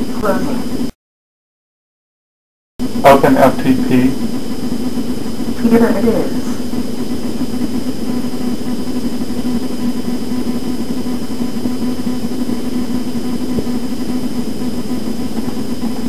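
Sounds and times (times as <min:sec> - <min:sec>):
background hum and hiss: 0:00.0 - 0:00.9, 0:02.8 - 0:16.0
faint high whines: 0:00.0 - 0:01.0, 0:02.8 - 0:16.0.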